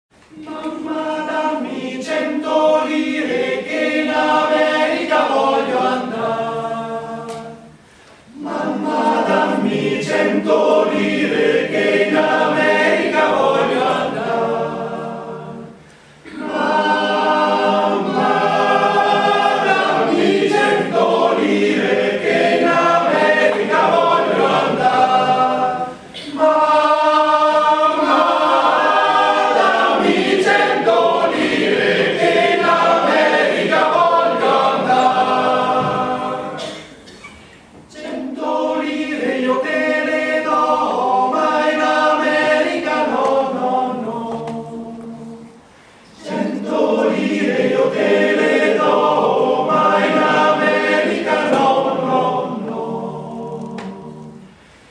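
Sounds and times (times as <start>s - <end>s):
choir singing: 0.3s - 37.1s, 37.8s - 54.6s.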